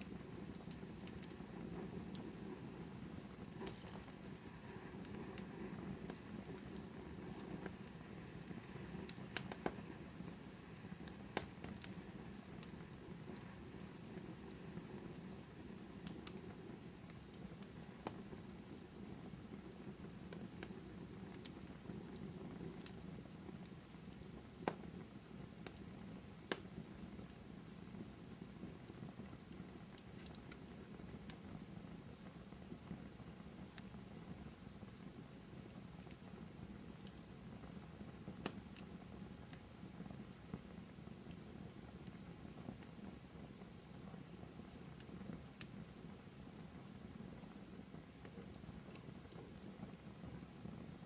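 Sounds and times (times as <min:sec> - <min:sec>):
fire pops: 0:00.0 - 0:50.5
hiss of burning: 0:00.0 - 0:51.0
wood fire crackling: 0:00.0 - 0:51.0.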